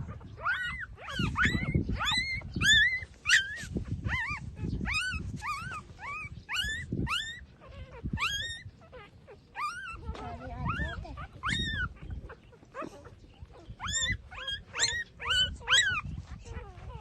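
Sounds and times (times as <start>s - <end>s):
puppies squealing and whimpering: 0.0s - 17.0s.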